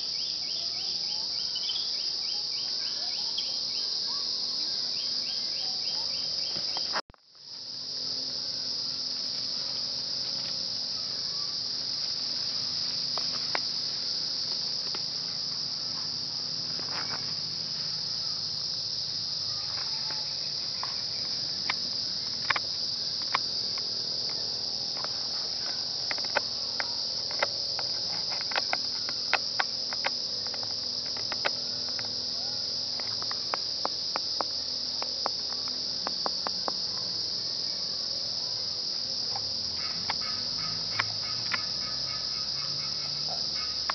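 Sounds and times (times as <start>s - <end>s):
insect chorus buzzing: 0.0s - 43.9s.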